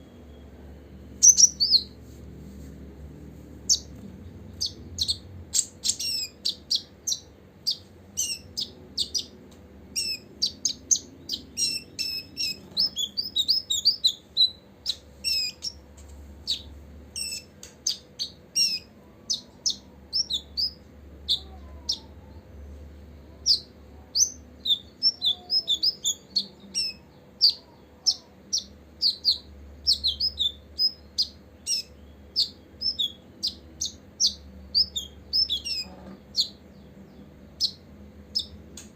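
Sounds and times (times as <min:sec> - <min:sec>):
bird chirping: 0:00.0 - 0:02.0, 0:03.6 - 0:38.9.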